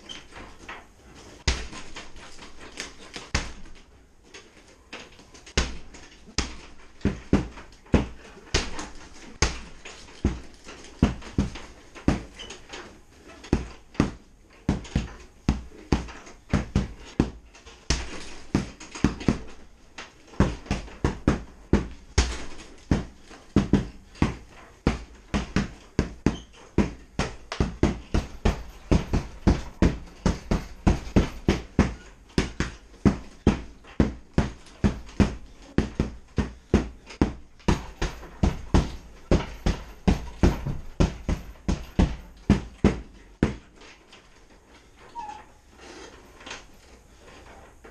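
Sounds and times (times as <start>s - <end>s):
punches thudding on punching bag: 1.4s - 3.8s, 5.5s - 12.5s, 13.5s - 19.6s, 20.3s - 43.7s.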